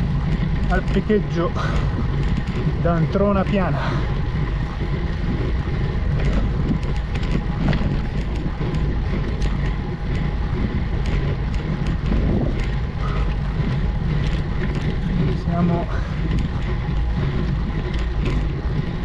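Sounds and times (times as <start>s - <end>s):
light bicycle clicks and ticks: 0.0s - 19.0s
wind rumbling on microphone: 0.0s - 19.0s.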